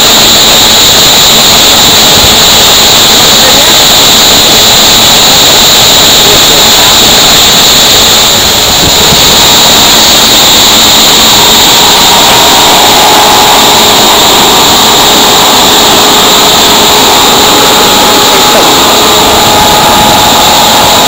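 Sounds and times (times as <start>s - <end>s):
conveyor drive mechanical noise: 0.0s - 21.0s.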